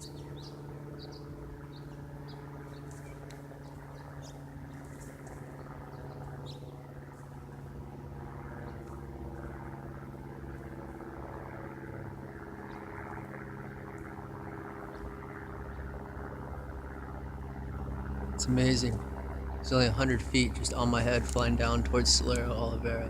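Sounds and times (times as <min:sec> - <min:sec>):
light aircraft droning overhead: 0:00.0 - 0:23.0.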